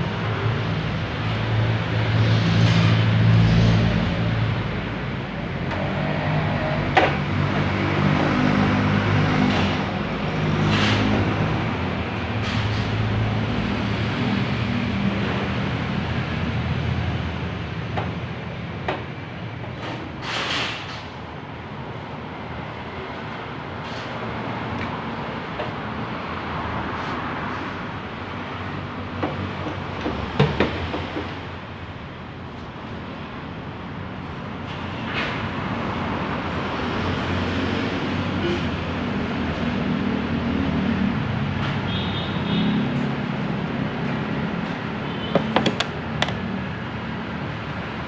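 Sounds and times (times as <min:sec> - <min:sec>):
traffic hum: 0:00.0 - 0:48.0
workshop hum: 0:00.0 - 0:48.0.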